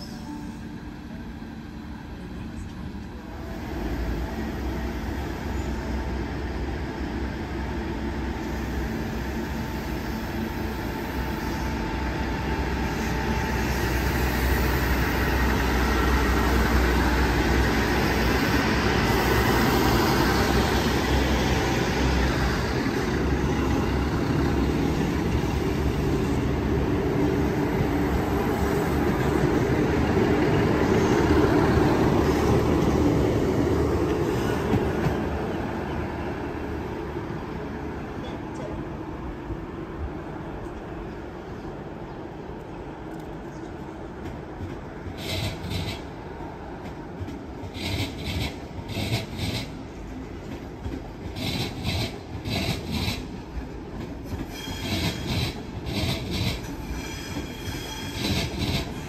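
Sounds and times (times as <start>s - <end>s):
diesel train engines humming: 0.0s - 59.0s.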